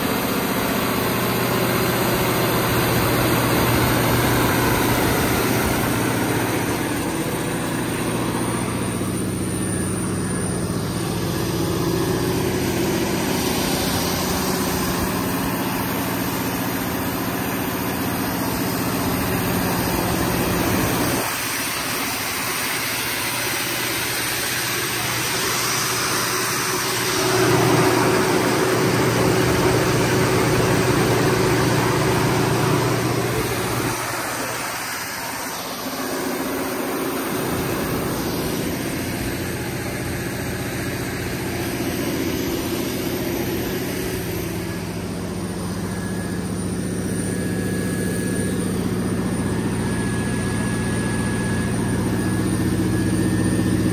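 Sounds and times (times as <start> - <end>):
diesel generator engine drone: 0.0 - 53.9.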